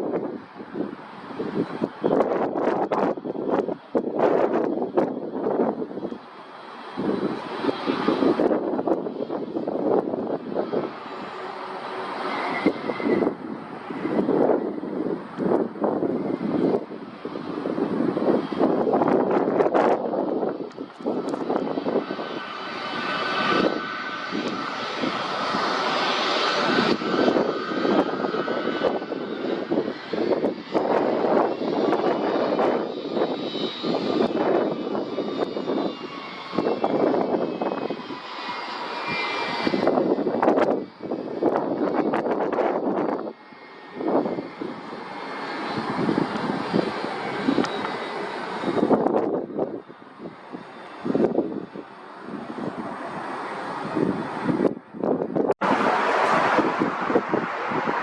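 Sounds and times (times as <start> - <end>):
airliner engines roaring: 0.0 - 58.0
rumbling surges: 0.0 - 58.0.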